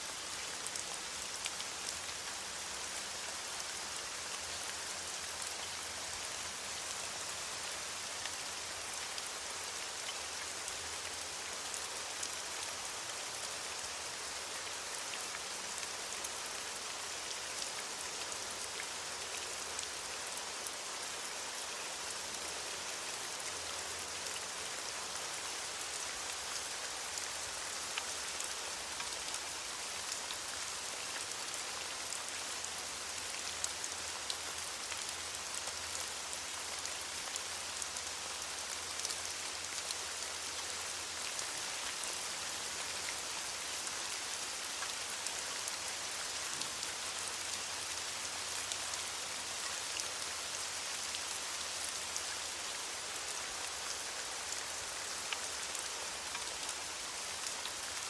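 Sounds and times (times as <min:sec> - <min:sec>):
rain hissing on leaves: 0:00.0 - 0:58.0.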